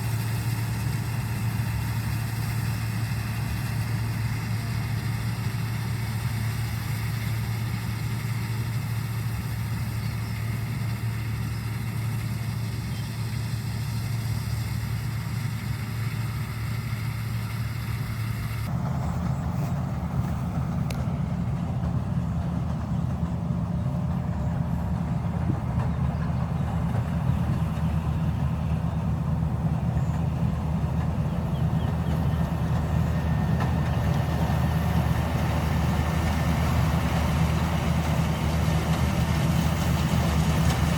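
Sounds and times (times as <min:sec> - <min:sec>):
combine harvester machinery running: 0:00.0 - 0:40.9.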